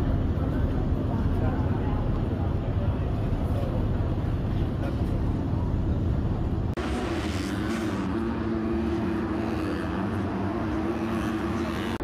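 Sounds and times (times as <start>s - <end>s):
steady engine drone: 0.0s - 12.0s.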